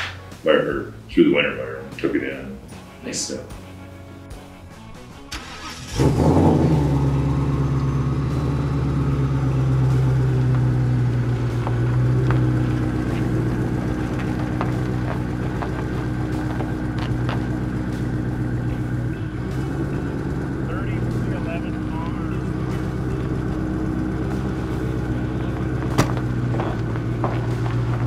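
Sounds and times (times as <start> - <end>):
engine starting and idling: 4.4 - 28.0.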